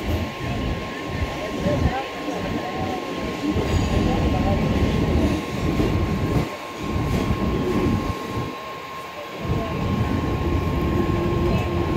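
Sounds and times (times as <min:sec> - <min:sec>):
train rumble and rattle: 0:00.0 - 0:11.9.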